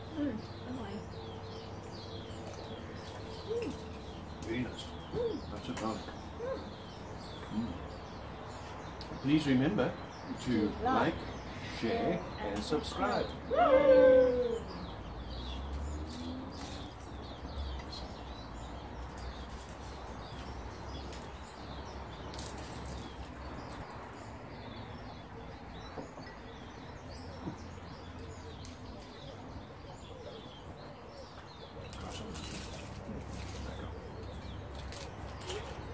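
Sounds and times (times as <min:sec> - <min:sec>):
low outdoor hum: 0:00.0 - 0:35.9
small birds chirping: 0:00.0 - 0:35.9.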